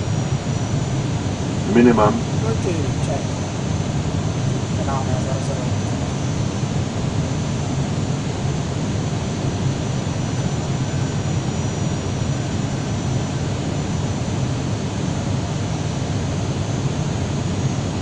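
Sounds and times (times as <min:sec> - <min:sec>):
faint high whine: 0:00.0 - 0:15.9
airliner engine and airflow noise: 0:00.0 - 0:18.0.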